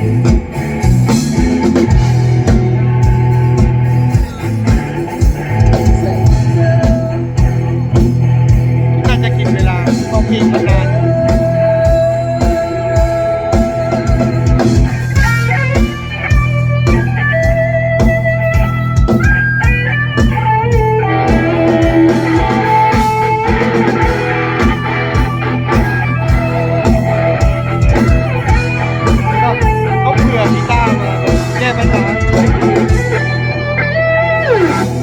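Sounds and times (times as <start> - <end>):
electric guitar melody: 0.0 - 35.0
rock band playing live: 0.0 - 35.0.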